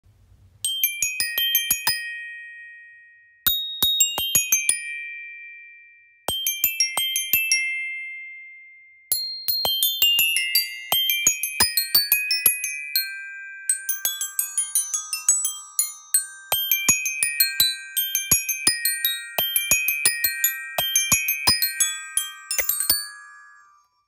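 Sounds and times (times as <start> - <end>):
glockenspiel runs: 0.7 - 24.0.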